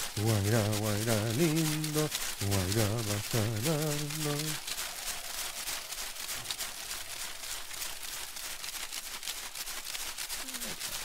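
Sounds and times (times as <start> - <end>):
rattle shaking: 0.0 - 11.0.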